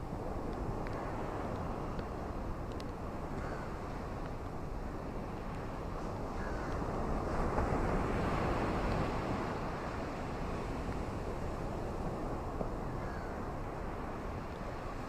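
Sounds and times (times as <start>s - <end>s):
ocean surf on beach: 0.0s - 15.0s.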